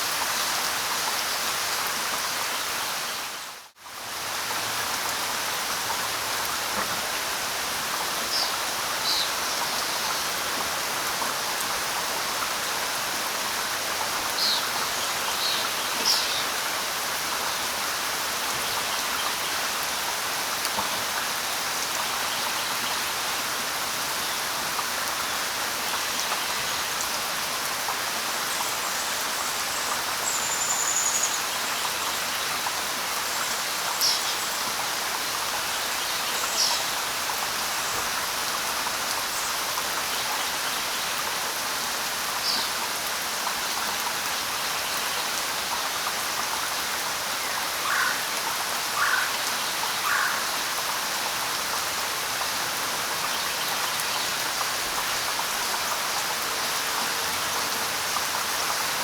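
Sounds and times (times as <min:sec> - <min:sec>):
light rain on leaves: 0:00.0 - 0:59.0.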